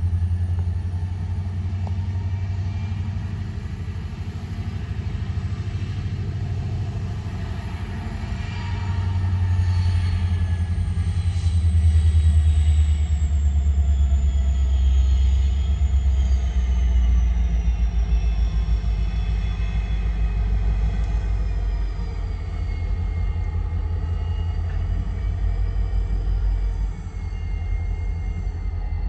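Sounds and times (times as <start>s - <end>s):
diesel locomotive rumbling: 0.0s - 29.0s
faint high whine: 0.0s - 29.0s.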